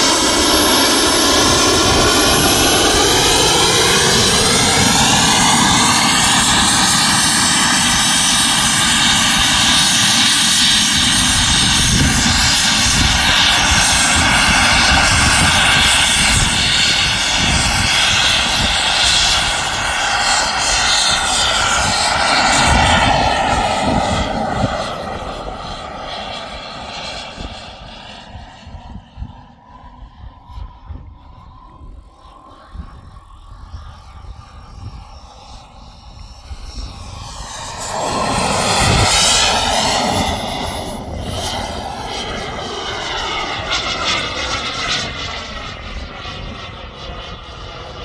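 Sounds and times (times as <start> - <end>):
model jet turbine whine: 0.0 - 48.0
rushing jet exhaust: 0.0 - 48.0.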